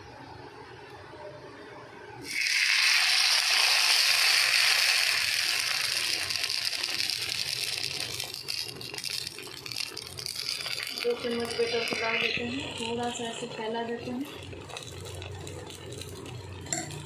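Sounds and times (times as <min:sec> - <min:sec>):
batter sizzling in a hot pan: 0:02.2 - 0:17.0.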